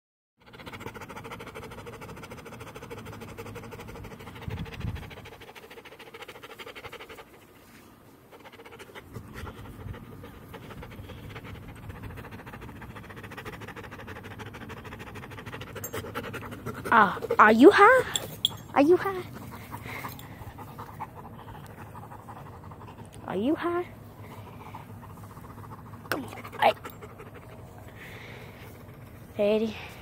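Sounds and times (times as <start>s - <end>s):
dog panting: 0.4s - 30.0s.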